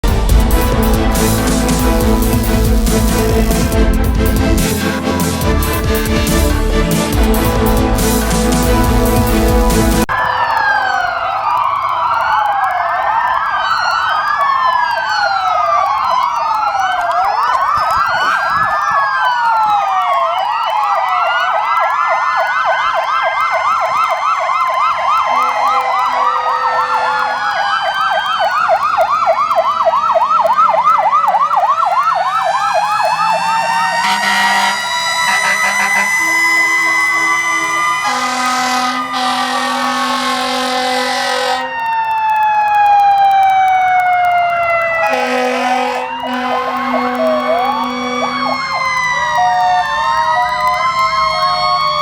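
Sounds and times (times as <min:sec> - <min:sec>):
fire truck sirens wailing and yelping: 0:00.0 - 0:52.0.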